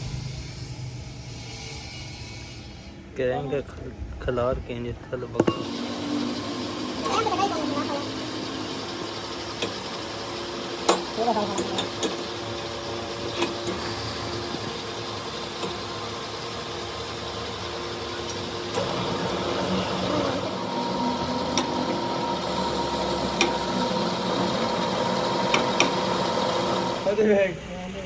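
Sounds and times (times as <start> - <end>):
machine humming: 3.9 - 28.0.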